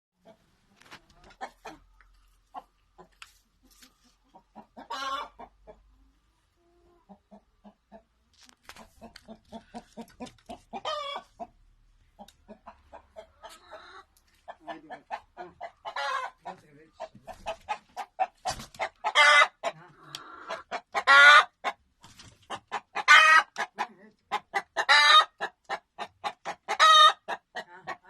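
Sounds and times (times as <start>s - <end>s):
rooster clucking: 0.2s - 21.8s, 22.4s - 28.0s.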